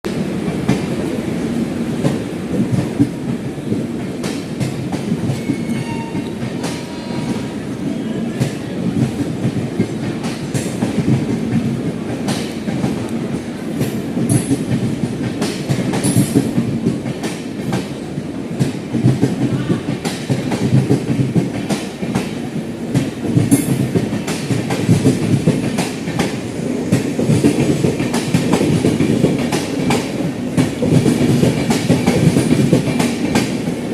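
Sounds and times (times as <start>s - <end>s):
train wheels clickety-clack: 0.1s - 33.9s.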